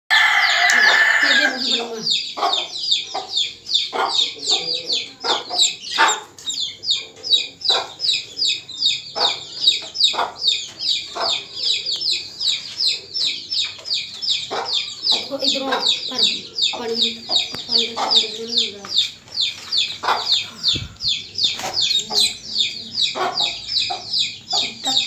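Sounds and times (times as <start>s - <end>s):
duckling peeping: 0.8s - 25.0s.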